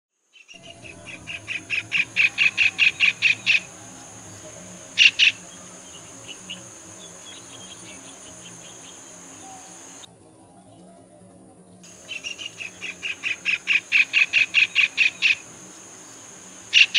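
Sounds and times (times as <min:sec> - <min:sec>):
kingfisher calling sharp notes: 0:00.6 - 0:10.0, 0:11.9 - 0:16.9
steady high-pitched buzz: 0:00.6 - 0:10.1, 0:11.9 - 0:16.9.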